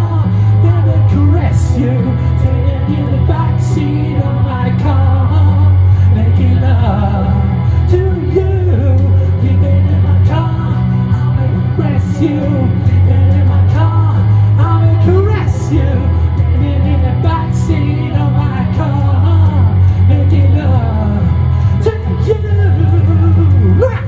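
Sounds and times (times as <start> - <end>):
electric guitar: 0.0 - 24.0
heavy bass line: 0.0 - 24.0
man singing: 0.0 - 24.0.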